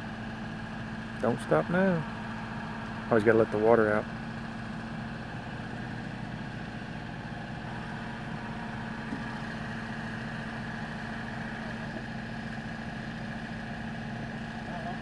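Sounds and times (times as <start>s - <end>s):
truck engine idling: 0.0s - 15.0s
steady high whine: 1.1s - 13.3s.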